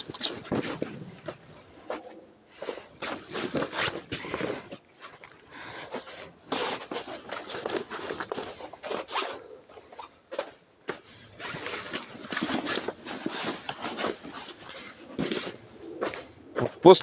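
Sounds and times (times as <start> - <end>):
plastic sheet rustling and scraping: 0.0 - 16.2.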